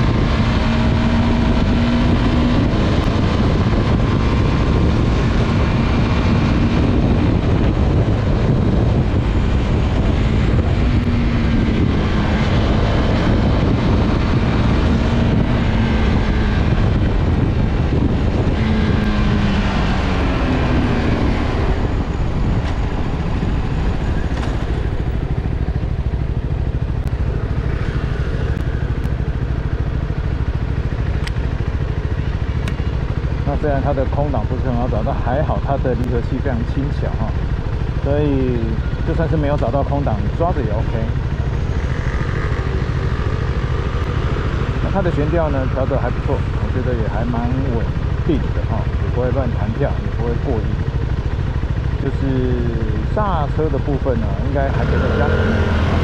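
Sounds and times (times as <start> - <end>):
motorcycle engine revving: 0.0 - 56.0
wind rush on microphone: 0.0 - 56.0.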